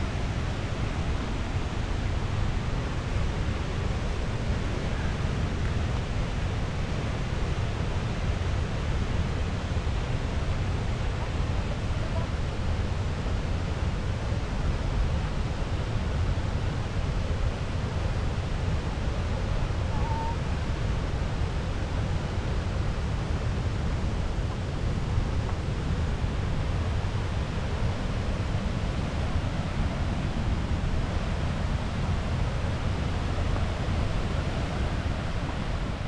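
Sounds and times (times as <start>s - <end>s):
waterfall roar: 0.0s - 36.0s.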